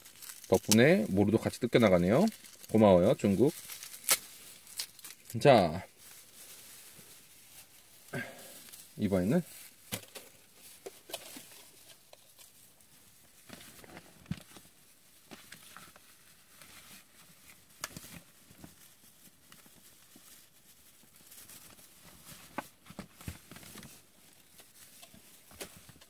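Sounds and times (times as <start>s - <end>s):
tinsel rustling and crinkling: 0.0s - 26.0s.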